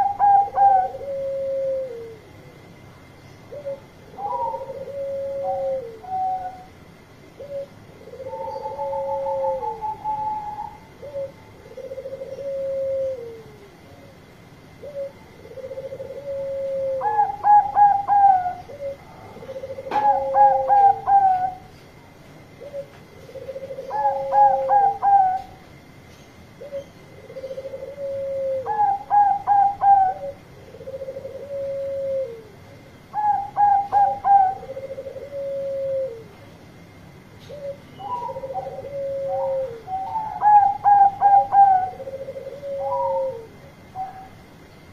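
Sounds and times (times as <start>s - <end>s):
doves cooing: 0.0s - 2.5s, 3.4s - 44.6s.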